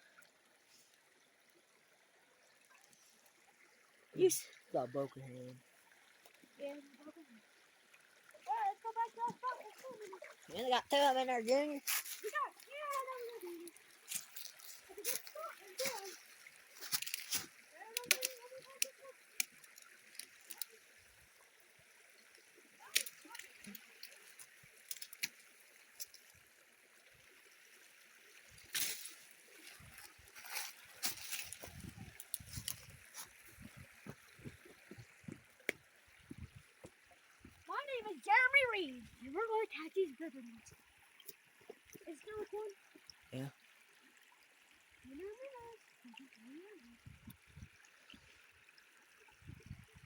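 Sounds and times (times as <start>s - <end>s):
creek water trickling: 0.0s - 50.0s.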